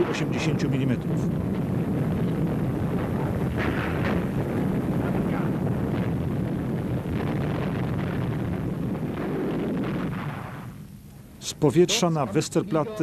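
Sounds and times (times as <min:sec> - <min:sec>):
rumble of gunfire and explosions: 0:00.0 - 0:13.0.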